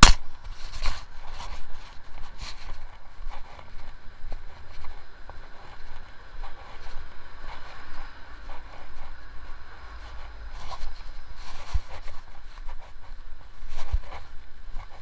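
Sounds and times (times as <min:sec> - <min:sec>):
traffic hum: 0:00.0 - 0:15.0
wind rumble on microphone: 0:00.0 - 0:15.0.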